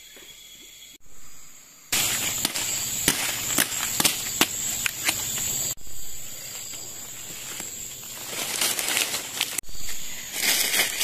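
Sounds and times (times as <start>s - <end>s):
forest insects droning: 0.0s - 11.0s
crackling hiss with pops: 1.9s - 11.0s.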